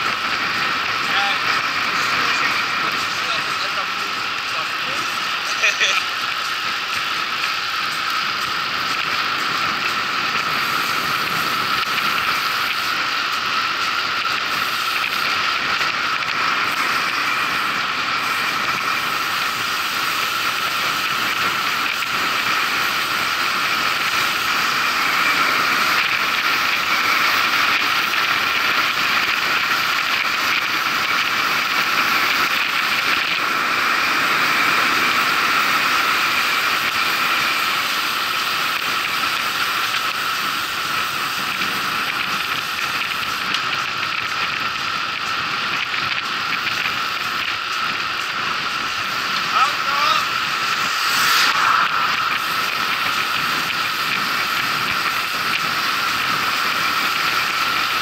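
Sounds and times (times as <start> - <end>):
bicycle drivetrain whirring and ratcheting: 0.0 - 58.0.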